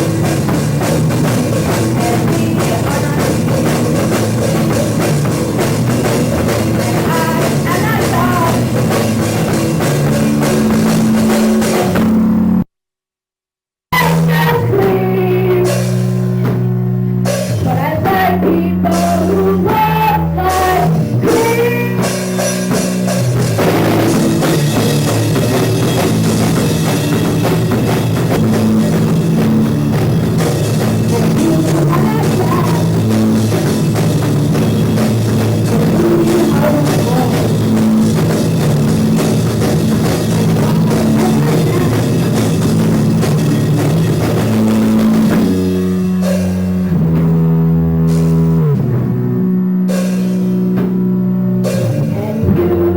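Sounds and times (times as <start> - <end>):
loud rock band playing: 0.0 - 12.7, 14.0 - 52.9.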